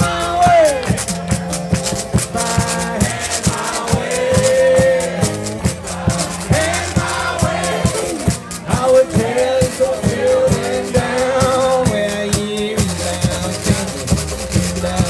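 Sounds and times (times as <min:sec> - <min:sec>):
man singing: 0:00.0 - 0:01.1, 0:02.2 - 0:15.0
strummed acoustic guitar: 0:00.0 - 0:15.0.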